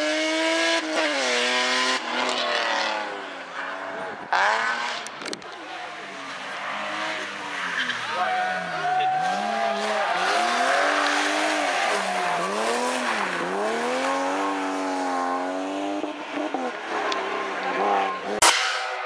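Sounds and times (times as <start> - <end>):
car engine revving: 0.0 - 18.6.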